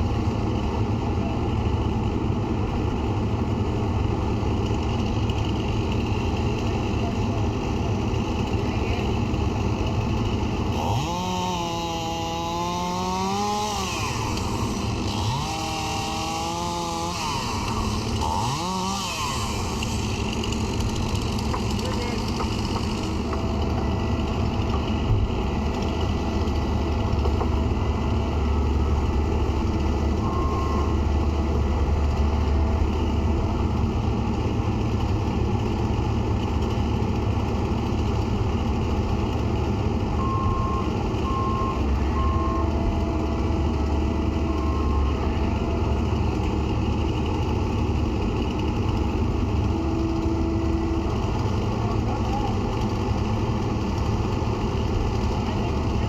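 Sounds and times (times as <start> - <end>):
excavator diesel engine rumbling: 0.0 - 56.0.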